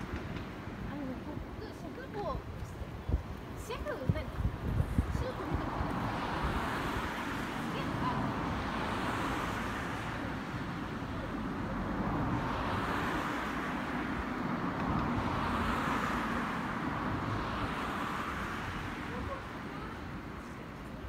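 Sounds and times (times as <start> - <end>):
distant traffic: 0.0 - 21.0
rail yard hum: 0.0 - 21.0.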